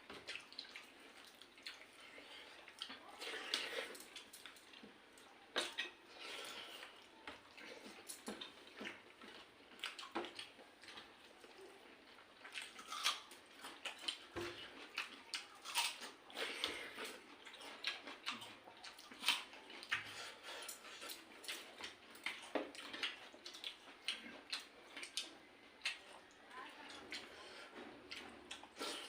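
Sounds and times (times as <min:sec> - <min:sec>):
people eating by hand: 0:00.0 - 0:29.0.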